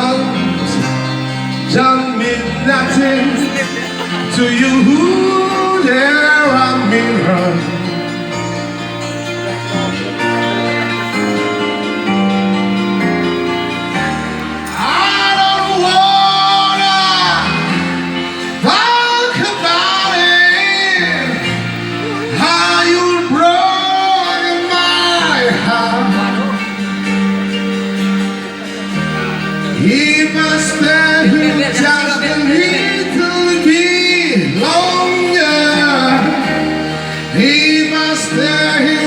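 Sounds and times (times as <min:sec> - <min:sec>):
karaoke backing track with guitar: 0:00.0 - 0:39.0
person singing: 0:00.0 - 0:39.0.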